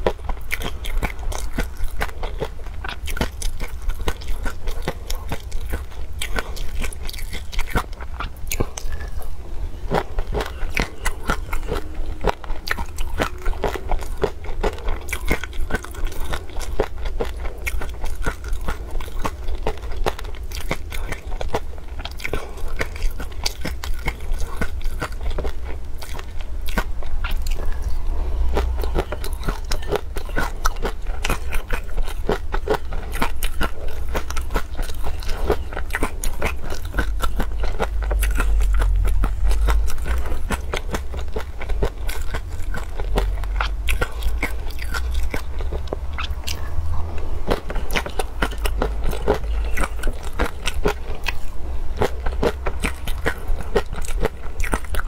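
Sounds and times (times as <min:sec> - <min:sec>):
close chewing and crunching: 0:00.0 - 0:55.0.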